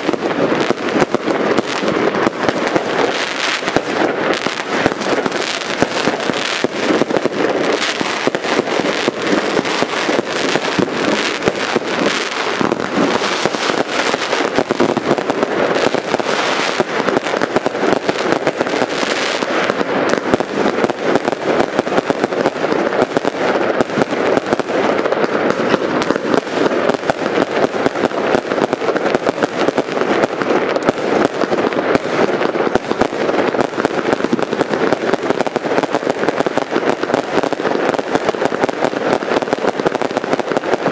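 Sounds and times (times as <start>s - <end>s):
fireworks and firecrackers banging: 0.0s - 40.9s.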